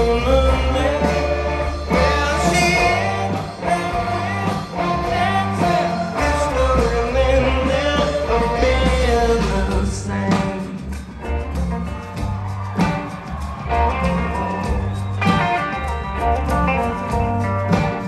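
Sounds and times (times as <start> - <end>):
drums: 0.0 - 18.0
electric guitar: 0.0 - 18.0.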